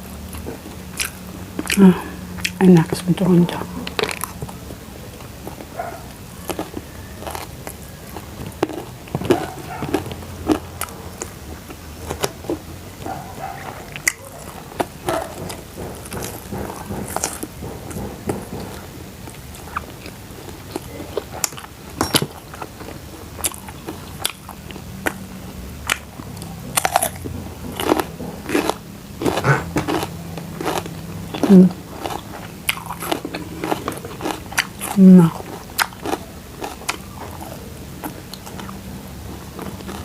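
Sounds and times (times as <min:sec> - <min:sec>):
person chewing crunchy food: 0:00.0 - 0:02.9, 0:03.8 - 0:40.0.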